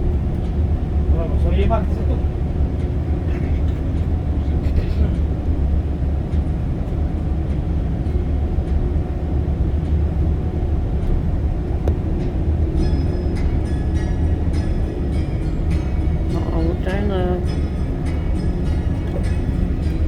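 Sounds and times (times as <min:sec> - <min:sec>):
coach engine rumble: 0:00.0 - 0:20.0
road noise: 0:00.0 - 0:20.0.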